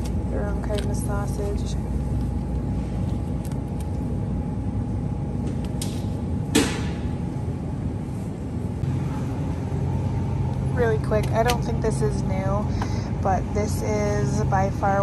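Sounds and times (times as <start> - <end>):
low hum of refrigerated case: 0.0 - 15.0.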